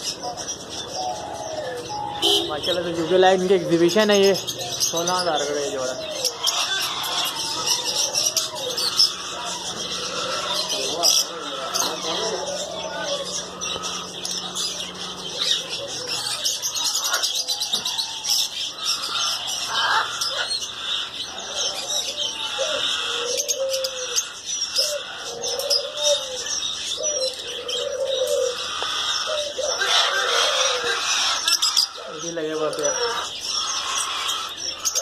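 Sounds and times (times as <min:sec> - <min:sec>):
budgerigar warbling: 0:00.0 - 0:35.0
caged birds chirping: 0:00.0 - 0:35.0
low warbled bird call: 0:00.0 - 0:35.0.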